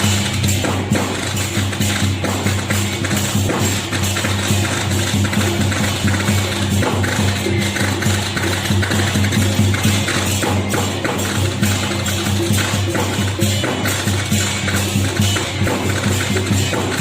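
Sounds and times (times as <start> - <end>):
fast dense percussion: 0.0 - 17.0.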